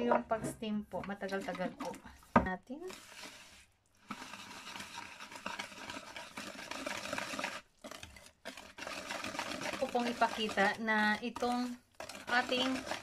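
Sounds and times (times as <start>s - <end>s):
whisk stirring thick batter: 1.0s - 13.0s.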